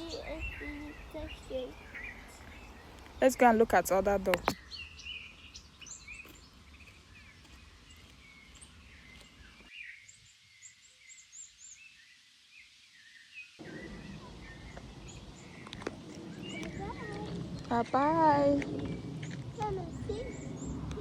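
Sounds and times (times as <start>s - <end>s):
faint birds chirping and whistling: 0.0s - 21.0s.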